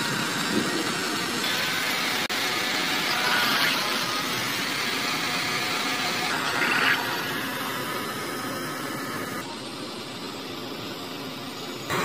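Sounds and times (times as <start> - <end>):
small water pump motor: 0.0 - 12.0.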